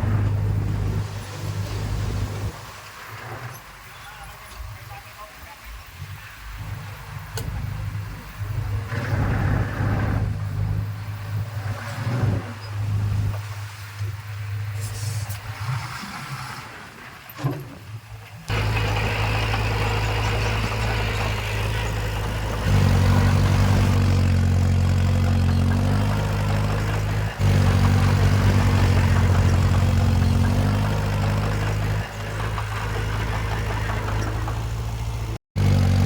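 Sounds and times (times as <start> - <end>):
heavy equipment diesel engine: 0.0 - 36.0.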